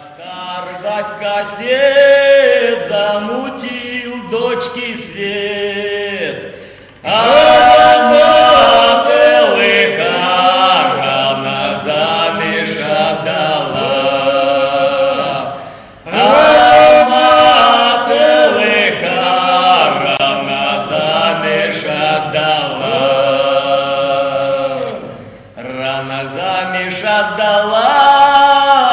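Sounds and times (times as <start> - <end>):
men singing folk song: 0.0 - 28.9.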